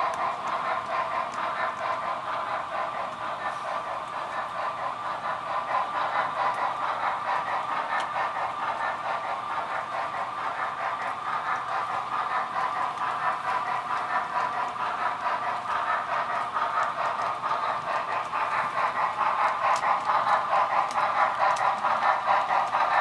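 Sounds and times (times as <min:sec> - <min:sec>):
train rattling: 0:00.0 - 0:23.0.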